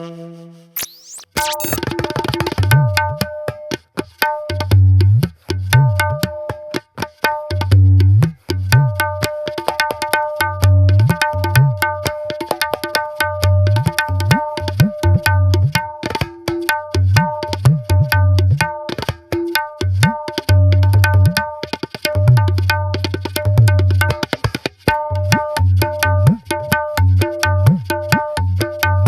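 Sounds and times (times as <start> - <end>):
tabla drumming: 1.0 - 29.0.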